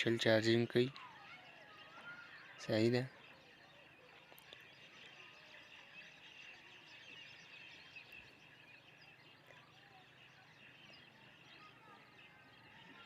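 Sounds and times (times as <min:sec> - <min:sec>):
distant small birds chirping: 0:00.0 - 0:13.0.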